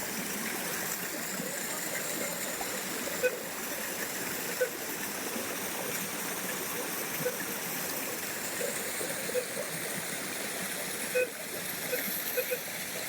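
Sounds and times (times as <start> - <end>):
rushing waterfall and stream: 0.0 - 13.0.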